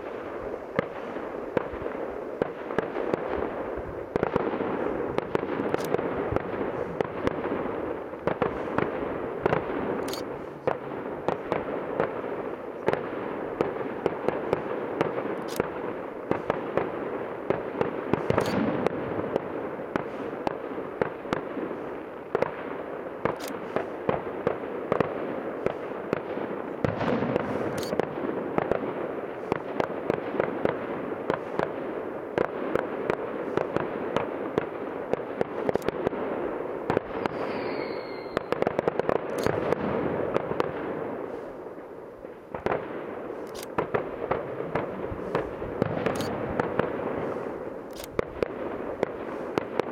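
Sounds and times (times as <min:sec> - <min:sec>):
fireworks crackling and popping: 0:00.0 - 0:49.9
sharp fireworks bangs: 0:00.0 - 0:49.9.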